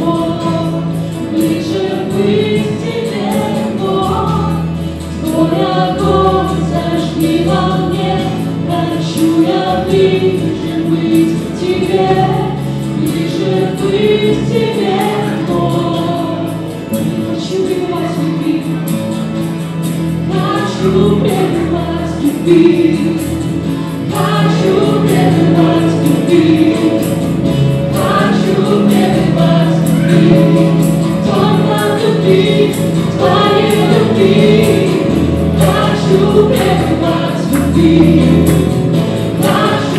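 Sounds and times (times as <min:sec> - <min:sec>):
group singing worship song: 0:00.0 - 0:18.8, 0:20.3 - 0:39.9
guitars and keyboard: 0:00.0 - 0:39.9.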